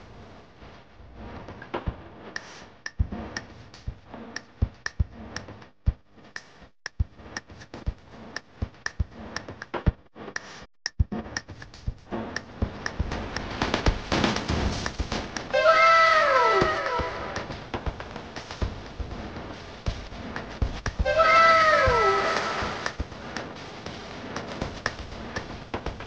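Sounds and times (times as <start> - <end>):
music with percussive beat: 1.4 - 15.7, 16.6 - 26.0.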